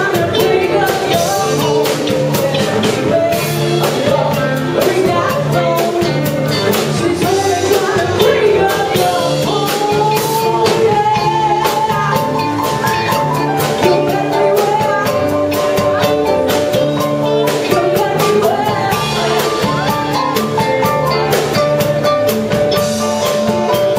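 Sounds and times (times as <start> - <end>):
drum kit with cymbal hits: 0.0 - 23.9
electric guitar and bass: 0.0 - 23.9
electric keyboard: 0.0 - 23.9
woman singing: 0.0 - 23.9.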